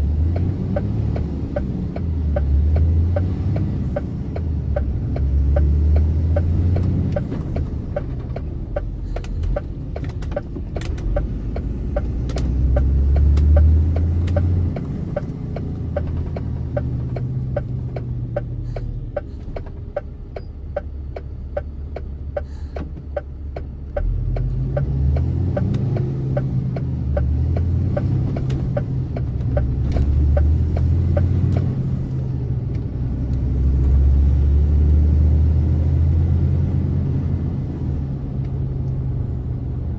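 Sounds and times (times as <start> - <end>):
truck engine driving: 0.0 - 39.9
regular ticking: 0.1 - 33.5.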